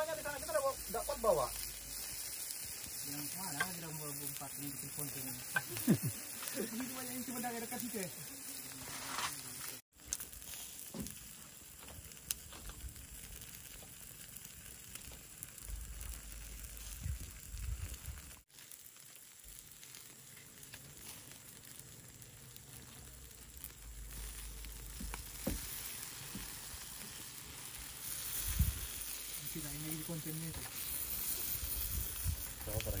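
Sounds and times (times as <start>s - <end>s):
chicken sizzling over fire: 0.0s - 33.0s
pops and crackles: 0.3s - 7.5s, 9.2s - 33.0s.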